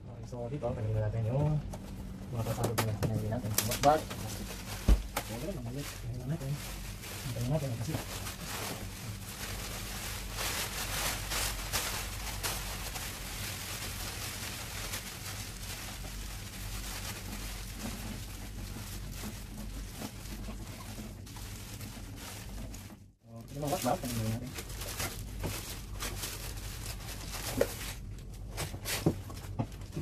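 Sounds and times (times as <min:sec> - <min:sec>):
washer motor hum: 0:00.0 - 0:30.0.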